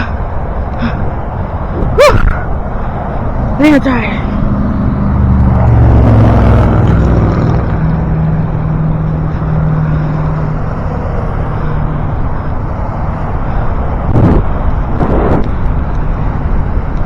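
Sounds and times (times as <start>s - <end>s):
motor vehicle engine hum: 0.0s - 17.0s
road noise: 0.0s - 17.0s
wind rushing on microphone: 0.0s - 17.0s.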